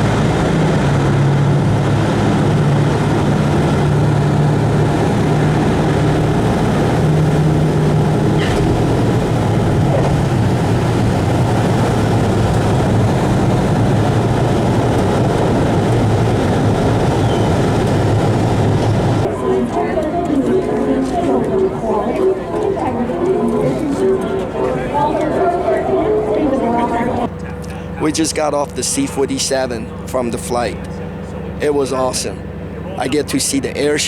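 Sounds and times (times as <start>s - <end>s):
propeller aircraft cabin drone: 0.0s - 34.0s.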